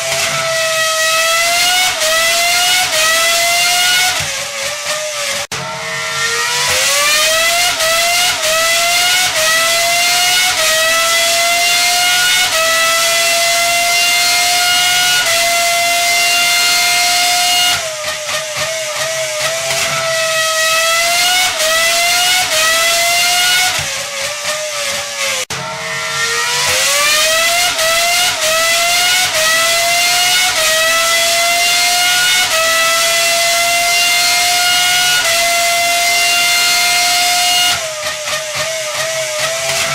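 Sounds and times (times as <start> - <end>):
engine revving high: 0.0 - 39.9.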